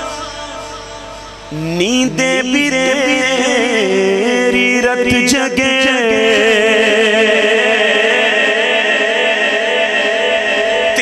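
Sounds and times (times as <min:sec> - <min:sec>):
man singing through microphone: 0:00.0 - 0:11.0.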